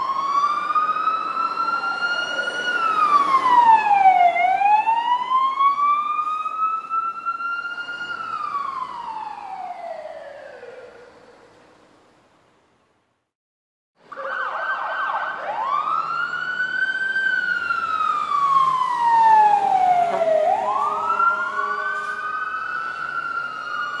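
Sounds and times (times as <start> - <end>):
emergency vehicle siren: 0.0 - 11.8, 14.0 - 24.0.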